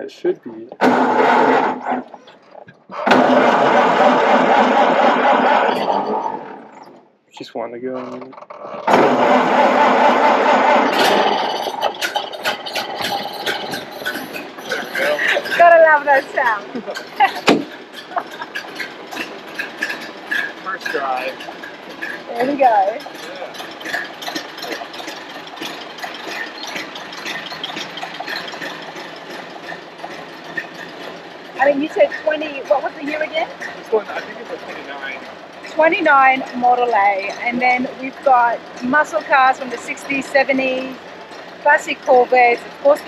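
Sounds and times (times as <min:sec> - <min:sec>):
car engine starting and idling: 0:00.0 - 0:43.0.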